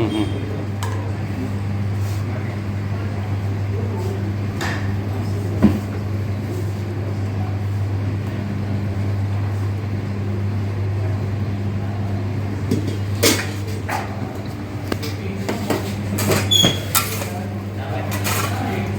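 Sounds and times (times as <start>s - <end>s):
kitchen equipment humming: 0.0s - 18.9s.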